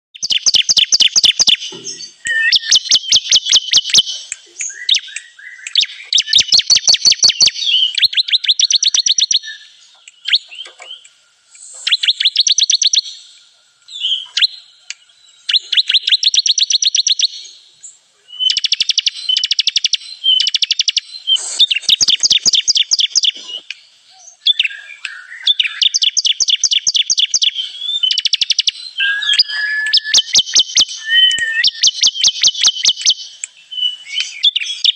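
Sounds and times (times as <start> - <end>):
bird song high trills: 0.2 - 34.9.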